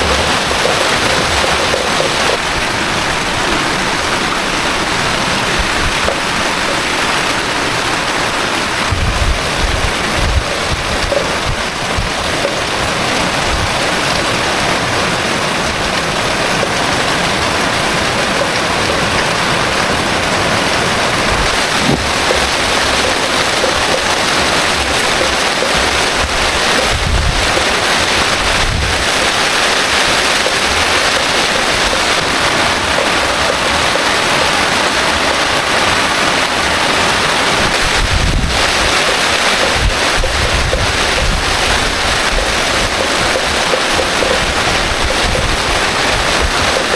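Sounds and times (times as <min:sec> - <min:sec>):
heavy rain falling: 0:00.0 - 0:46.9
low rumbles: 0:00.0 - 0:46.9
rushing floodwater: 0:00.0 - 0:46.9.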